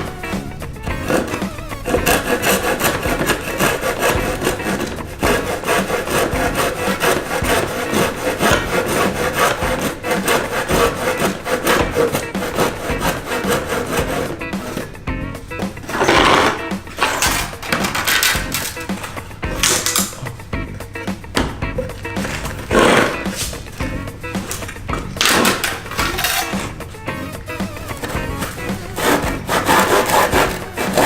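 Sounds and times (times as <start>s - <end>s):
background music: 0.0s - 31.0s
rhythmic rasping and rubbing: 0.0s - 31.0s.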